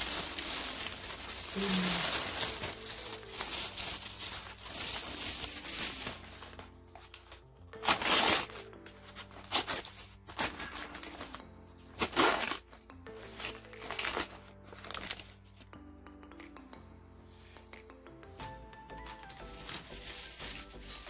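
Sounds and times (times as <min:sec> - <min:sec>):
paper bag crinkling: 0:00.0 - 0:15.4, 0:19.1 - 0:21.0
background music: 0:00.0 - 0:21.0.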